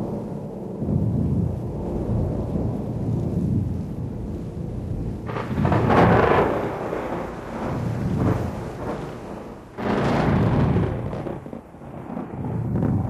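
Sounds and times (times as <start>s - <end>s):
thunder rumbling and crashing: 0.0s - 13.0s.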